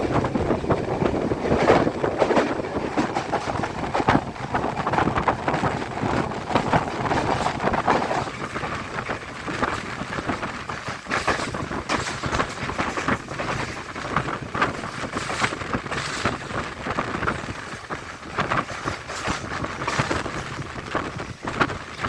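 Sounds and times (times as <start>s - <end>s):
train wheels clattering on rails: 0.0s - 22.0s
wind on microphone: 0.0s - 22.0s.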